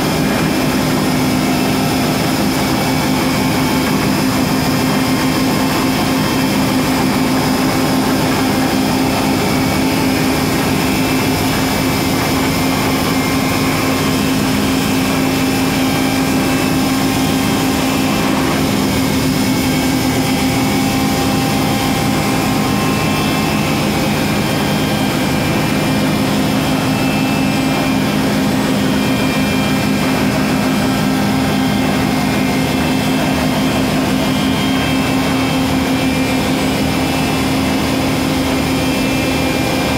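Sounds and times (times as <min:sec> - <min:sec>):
rail grinding machine: 0:00.0 - 0:39.9.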